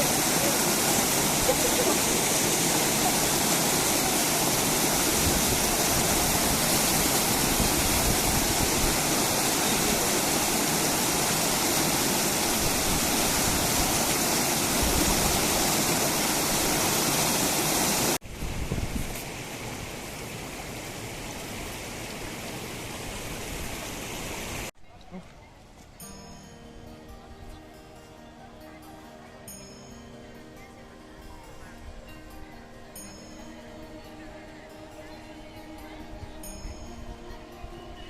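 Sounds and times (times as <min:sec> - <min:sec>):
rushing water: 0:00.0 - 0:26.6, 0:27.6 - 0:38.0.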